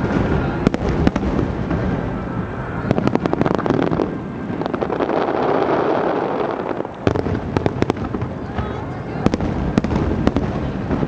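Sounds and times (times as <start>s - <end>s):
dense firework crackling: 0.0s - 11.0s
fireworks explosions rumbling: 0.0s - 11.0s
sharp firework cracks: 0.0s - 11.0s.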